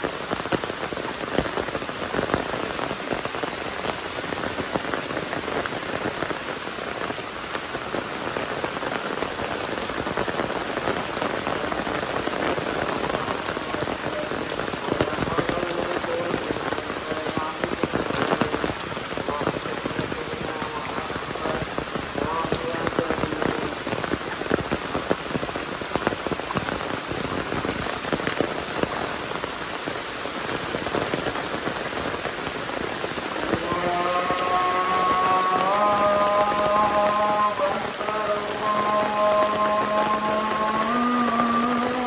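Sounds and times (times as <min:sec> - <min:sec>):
rain falling: 0:00.0 - 0:42.0
raindrops ticking on surfaces: 0:00.0 - 0:42.0.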